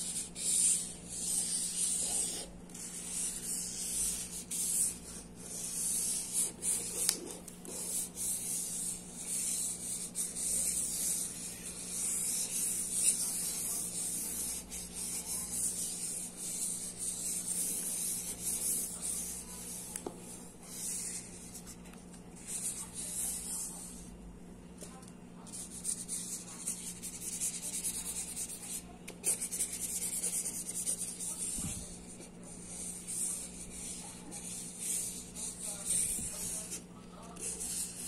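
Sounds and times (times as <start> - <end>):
markers scribbling on paper: 0.0 - 23.9, 25.5 - 38.0.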